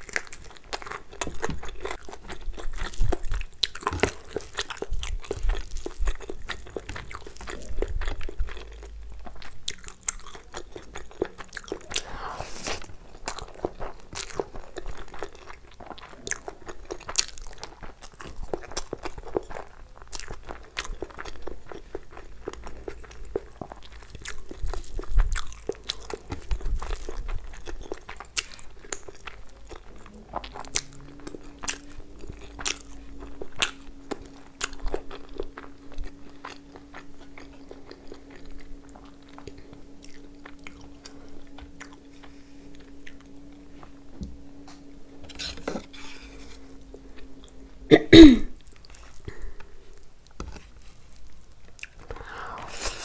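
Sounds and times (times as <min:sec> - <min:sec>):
crunchy chewing: 0:00.0 - 0:47.9, 0:48.6 - 0:53.0
steady low hum: 0:00.0 - 0:53.0.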